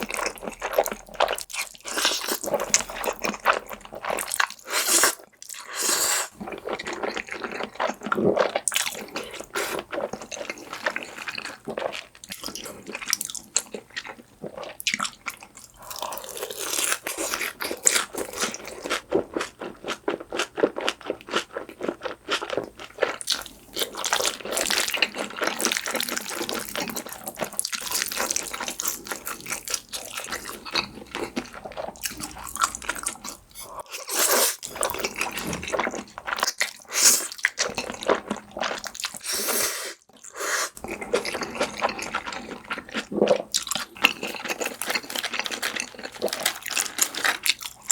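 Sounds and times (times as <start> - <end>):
crunching and chewing fried food: 0.0 - 47.9.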